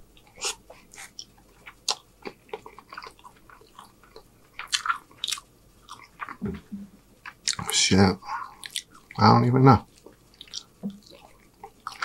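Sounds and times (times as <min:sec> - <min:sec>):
person chewing noodles: 0:00.1 - 0:06.4, 0:07.2 - 0:09.2, 0:09.9 - 0:12.0.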